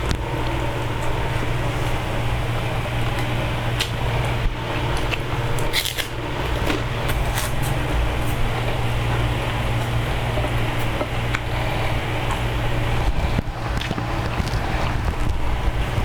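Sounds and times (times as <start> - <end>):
low hum and hiss: 0.0 - 16.0
person eating with crunches: 3.0 - 16.0.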